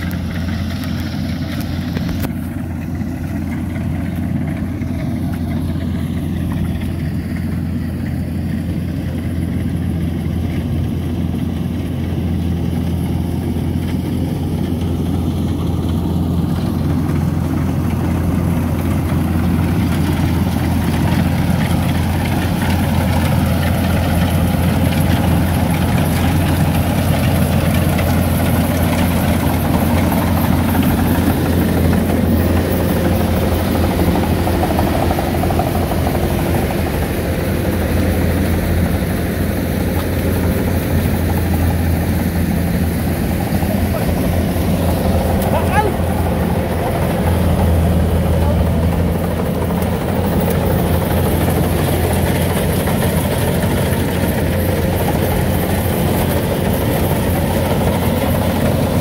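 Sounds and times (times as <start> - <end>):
combine harvester diesel engine drone: 0.0 - 59.0.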